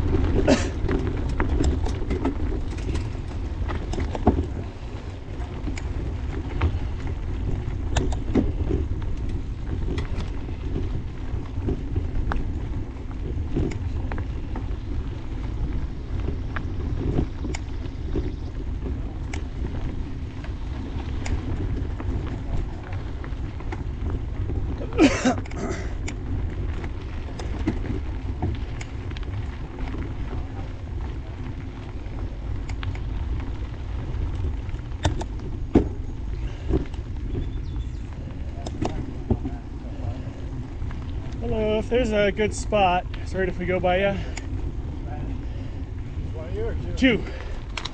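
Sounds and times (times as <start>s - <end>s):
bike clicks and rattles: 0.0s - 47.9s
bike tyres rolling on dirt: 0.0s - 47.9s
wind buffeting microphone: 0.0s - 47.9s.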